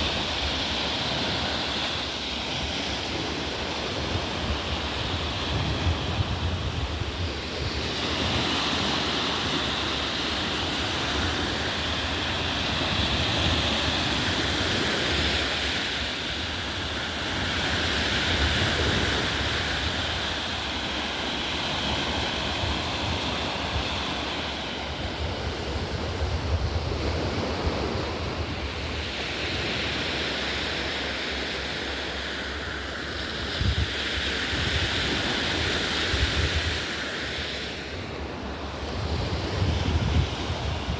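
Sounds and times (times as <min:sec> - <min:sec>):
wind buffeting microphone: 0:00.0 - 0:31.9, 0:33.4 - 0:37.2, 0:38.0 - 0:40.9
waves washing onto beach: 0:00.0 - 0:40.9.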